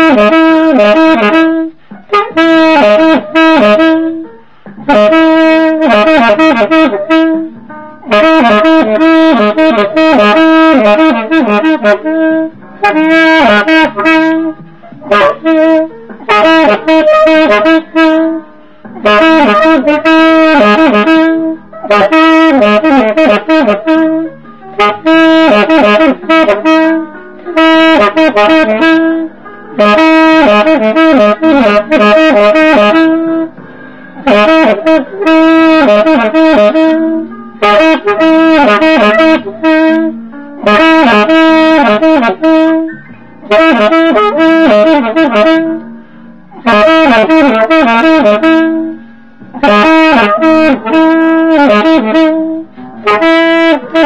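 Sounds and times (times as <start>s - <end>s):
alto saxophone jazz melody: 0.0s - 54.0s.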